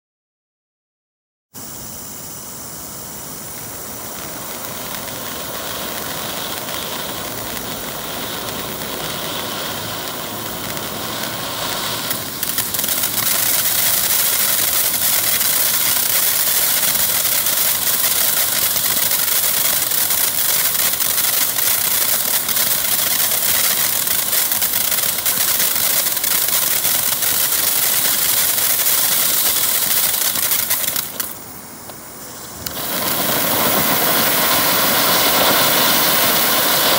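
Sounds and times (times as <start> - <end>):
firework fountain hissing: 1.6 - 36.9.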